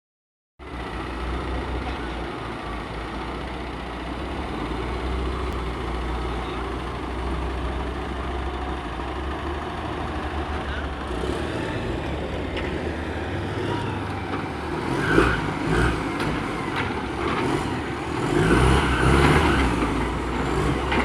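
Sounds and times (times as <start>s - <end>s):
heavy truck engine running: 0.6s - 21.0s.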